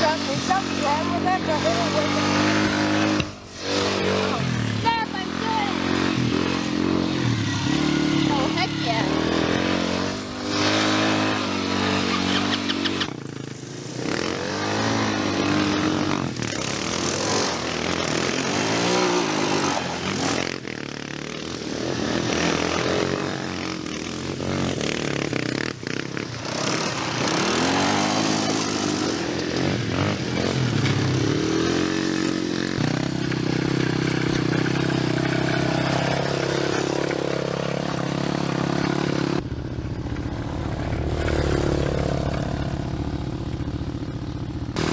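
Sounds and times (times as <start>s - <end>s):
small atv engines revving: 0.0s - 44.9s.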